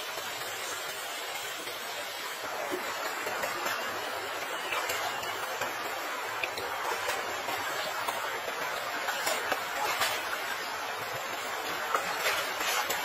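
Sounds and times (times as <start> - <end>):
small splashes and ticks: 0.0 - 13.0
stream water running: 0.0 - 13.0.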